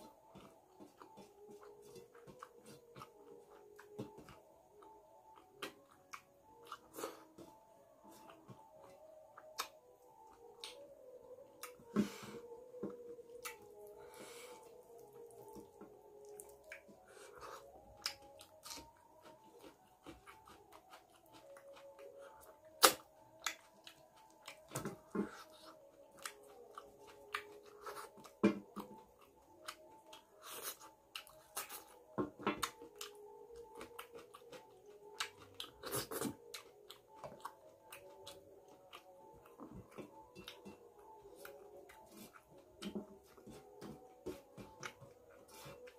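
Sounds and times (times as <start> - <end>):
person chewing and lip-smacking: 0.3 - 7.5, 8.1 - 10.9, 12.6 - 45.9.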